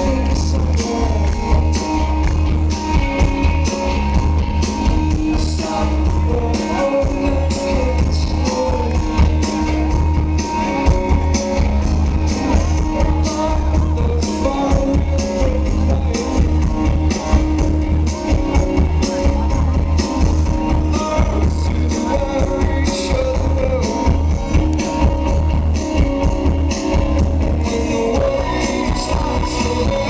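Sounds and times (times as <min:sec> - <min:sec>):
deep bass: 0:00.0 - 0:30.0
electric guitars: 0:00.0 - 0:30.0
steady drum beat: 0:00.0 - 0:30.0.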